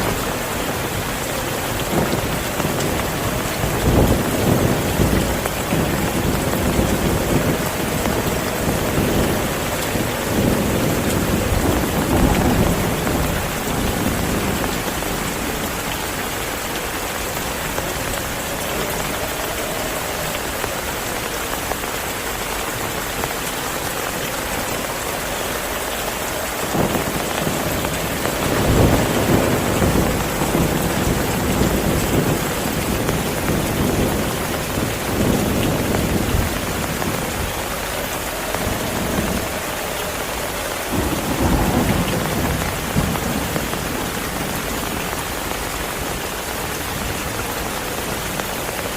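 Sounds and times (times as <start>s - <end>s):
low rolling thunder: 0.0s - 48.4s
heavy rain falling: 0.0s - 48.9s.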